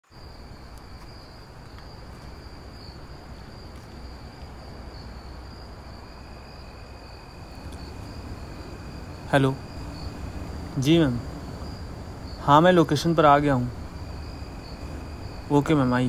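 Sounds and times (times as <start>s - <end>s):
crickets trilling high: 0.0s - 16.0s
lower cricket trill: 0.0s - 16.0s
low steady rumble: 0.2s - 16.0s.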